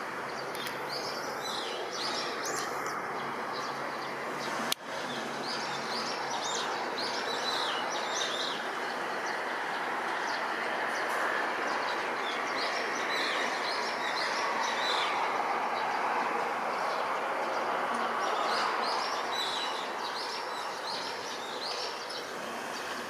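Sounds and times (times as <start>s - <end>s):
small birds chirping: 0.2s - 23.0s.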